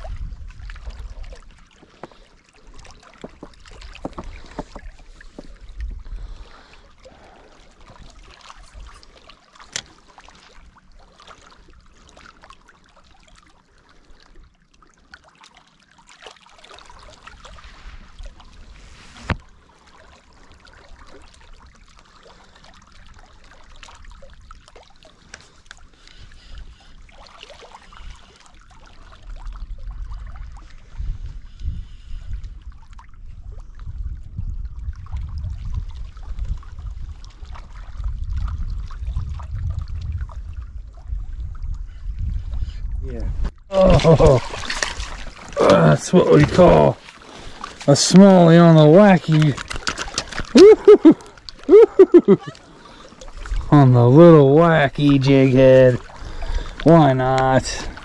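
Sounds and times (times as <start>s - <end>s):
waves lapping among rocks: 0.0s - 33.4s, 43.1s - 58.0s.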